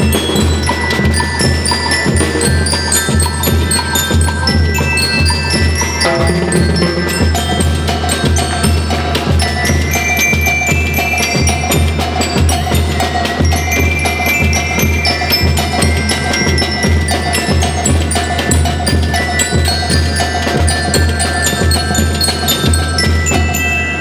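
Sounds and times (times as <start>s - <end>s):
bass drum: 0.0s - 23.5s
snare drums: 0.0s - 23.9s
bell lyres ringing a melody: 0.0s - 24.0s
cymbals: 0.0s - 24.0s.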